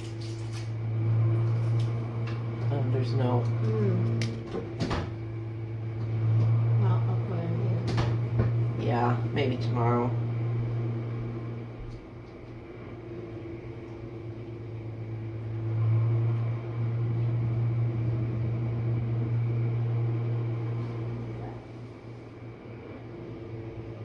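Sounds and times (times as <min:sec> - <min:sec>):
dishwasher pump hum: 0:00.0 - 0:24.0.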